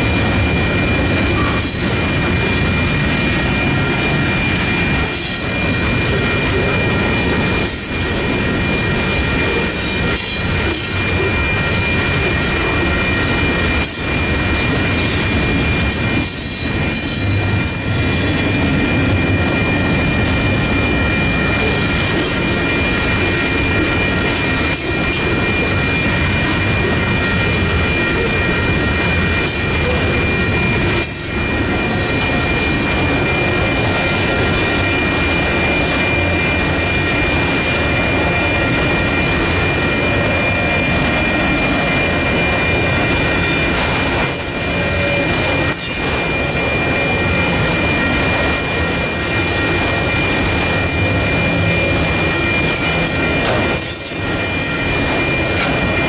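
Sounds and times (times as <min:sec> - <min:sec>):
crossing bells ringing: 0:00.0 - 0:56.0
steel wheels clattering on rails: 0:00.0 - 0:56.0.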